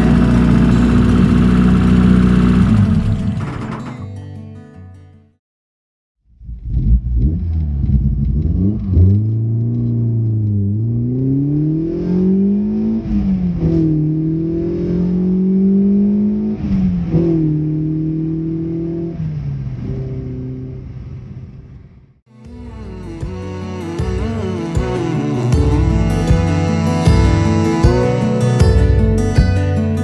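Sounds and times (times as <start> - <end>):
car engine revving: 0.0 - 3.9, 6.4 - 21.8, 22.5 - 29.5.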